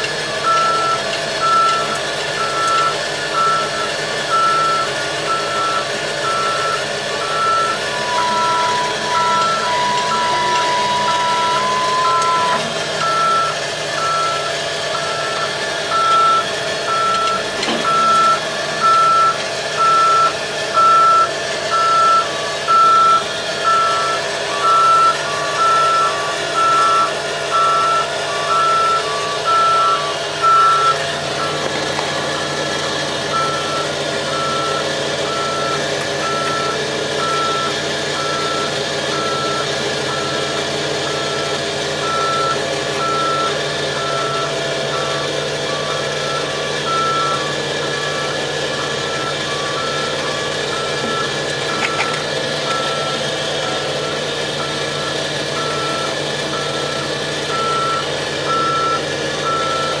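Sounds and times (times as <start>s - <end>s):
diesel engine running: 0.0s - 60.0s
backup alarm beeping: 0.3s - 60.0s
lower-pitched alarm: 0.3s - 60.0s.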